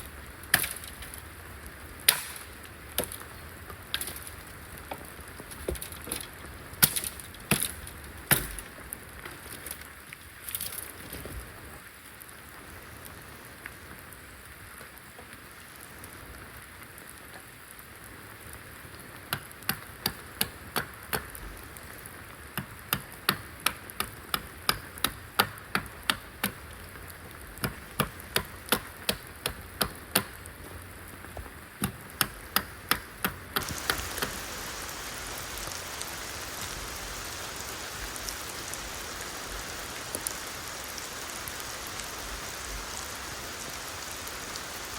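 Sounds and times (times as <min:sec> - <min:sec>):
rain hiss: 0:00.0 - 0:44.9.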